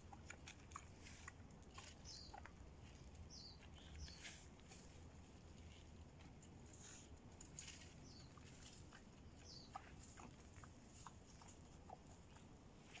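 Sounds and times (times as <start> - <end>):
boars foraging in dry leaves: 0.0 - 13.0.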